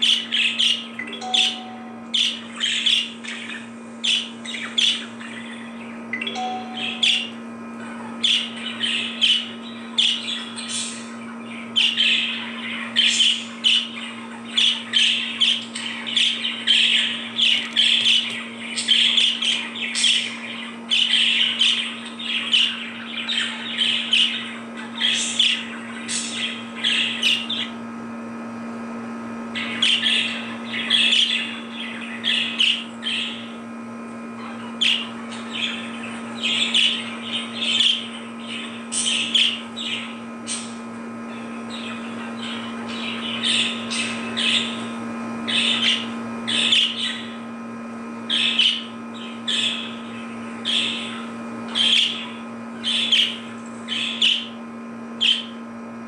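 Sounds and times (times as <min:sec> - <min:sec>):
budgerigars chirping: 0:00.0 - 0:07.4, 0:08.1 - 0:27.8, 0:29.6 - 0:33.6, 0:34.4 - 0:47.4, 0:48.3 - 0:54.6, 0:55.2 - 0:55.6
steady low hum: 0:00.0 - 0:56.0.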